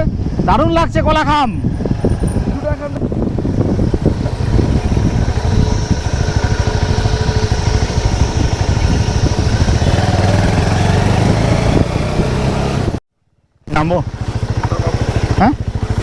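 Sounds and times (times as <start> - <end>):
motorcycle engine running: 1.6 - 13.0, 13.7 - 16.0.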